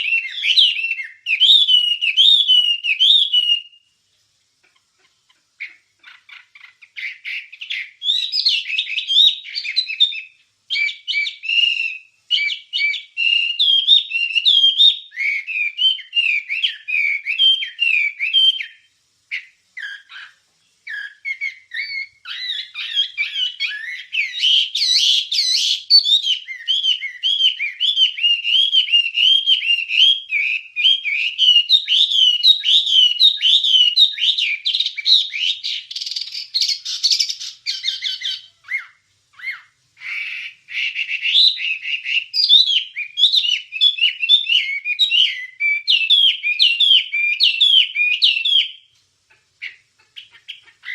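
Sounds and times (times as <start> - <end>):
songbird warbling song: 0.0 - 50.9.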